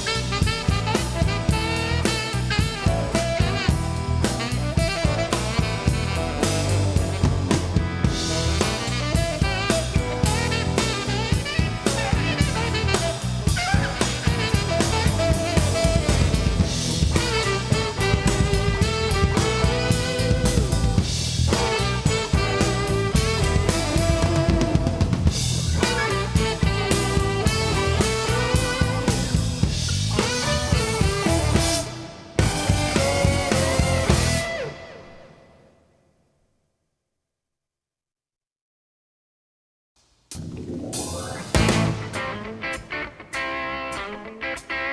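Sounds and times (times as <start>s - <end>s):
busy drum kit: 0.0s - 35.3s, 40.0s - 44.9s
rock band playing: 0.0s - 35.4s, 40.4s - 44.9s.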